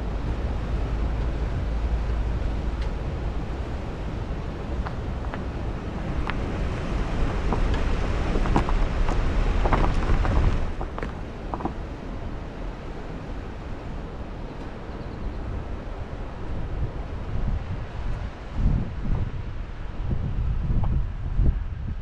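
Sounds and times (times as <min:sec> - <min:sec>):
vehicle driving on sand: 0:00.0 - 0:22.0
wind buffeting microphone: 0:00.0 - 0:22.0.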